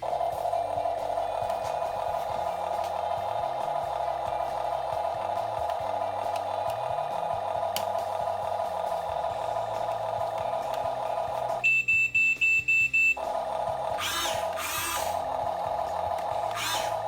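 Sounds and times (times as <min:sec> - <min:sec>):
electronic engine hum: 0:00.0 - 0:12.1, 0:13.1 - 0:17.0.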